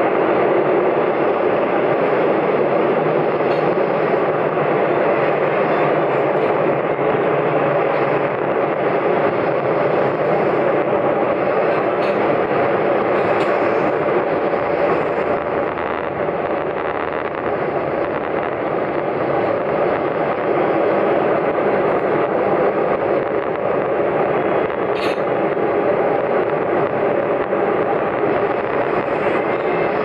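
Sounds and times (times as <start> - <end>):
diesel railcar running noise: 0.0 - 30.0.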